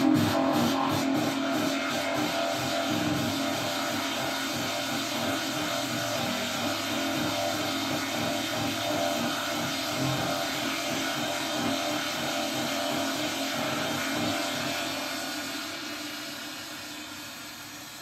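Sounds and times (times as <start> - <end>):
synthesizer drone: 0.0 - 16.9.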